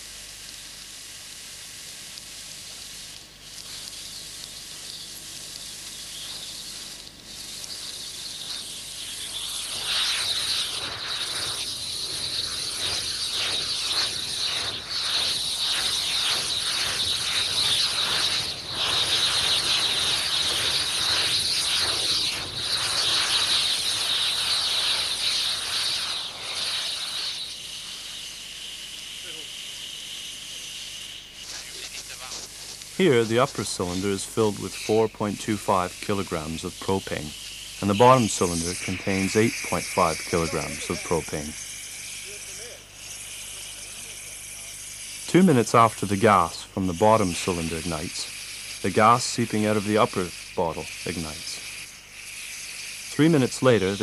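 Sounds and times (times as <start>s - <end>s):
fire crackling: 0.0s - 54.0s
gas hissing: 0.0s - 54.0s.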